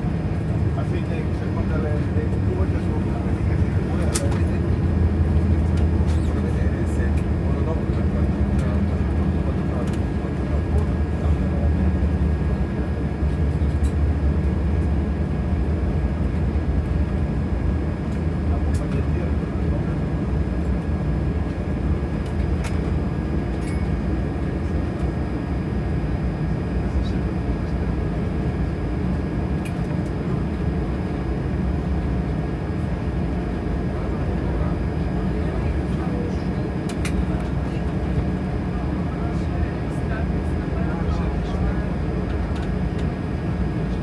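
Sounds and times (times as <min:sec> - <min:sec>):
faint steady whine: 0:00.0 - 0:44.0
jet engines low rumble: 0:00.0 - 0:44.0.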